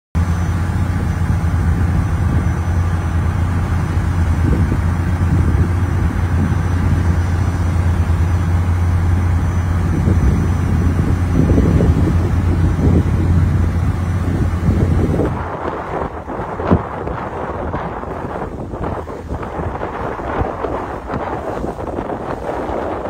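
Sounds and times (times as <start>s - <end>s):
boat engine droning: 0.2s - 23.0s
water churning: 0.2s - 23.0s
wind rushing: 0.2s - 23.0s.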